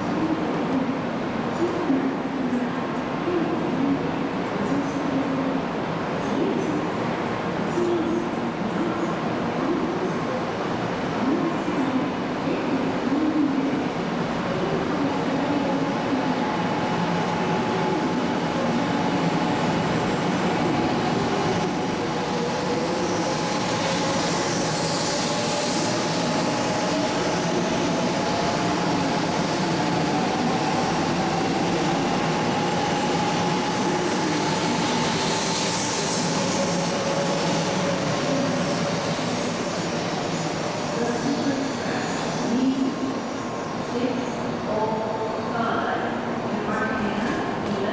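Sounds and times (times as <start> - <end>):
rising train whine: 0.0 - 47.9
train rumble on rails: 0.0 - 47.9.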